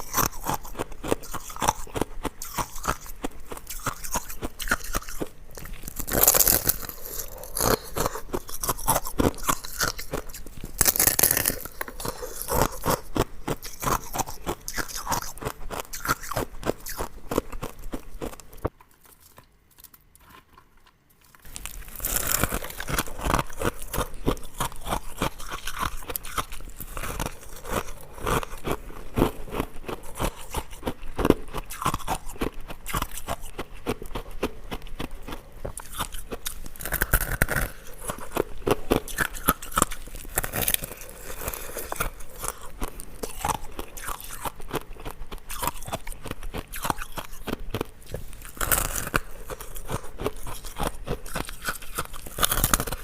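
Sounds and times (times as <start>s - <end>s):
ice cubes crunching in chewing: 0.0s - 53.0s.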